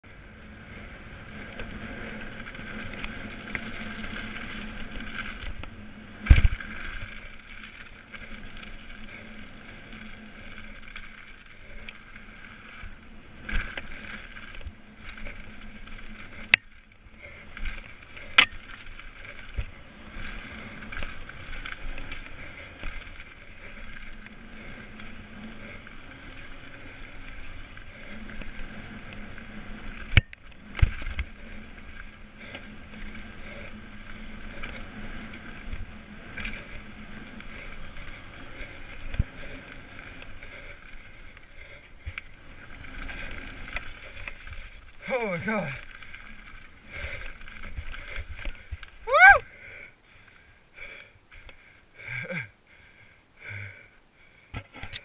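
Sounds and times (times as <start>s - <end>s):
bike tyres rushing on dirt: 0.0s - 55.0s
bike clacking over bumps: 1.0s - 49.4s.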